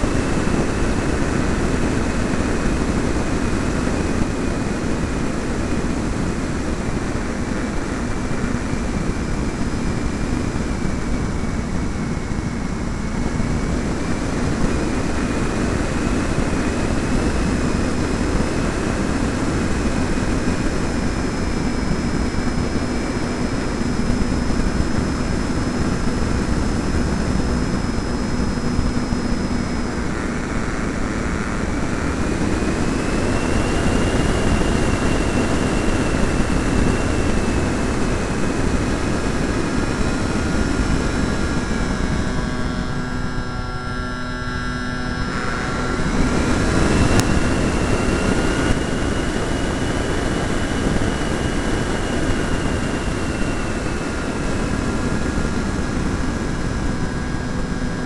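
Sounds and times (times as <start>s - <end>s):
wind rushing over camera: 0.0s - 43.6s, 44.6s - 58.0s
model plane motor whining: 0.0s - 58.0s.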